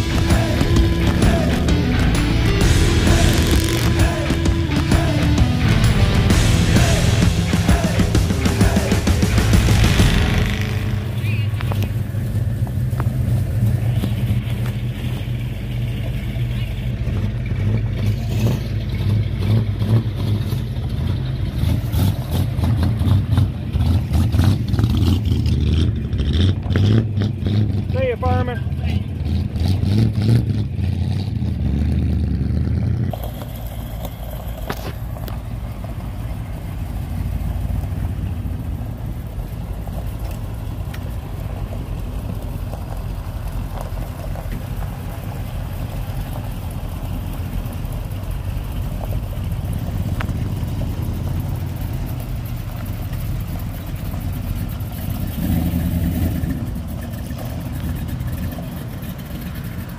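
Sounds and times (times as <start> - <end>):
car engines rumbling past: 0.0 - 59.9.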